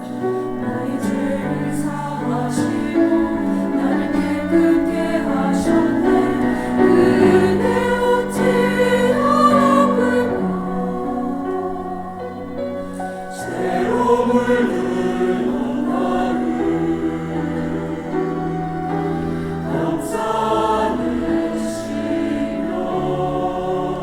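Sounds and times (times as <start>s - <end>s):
church choir singing: 0.0s - 24.0s.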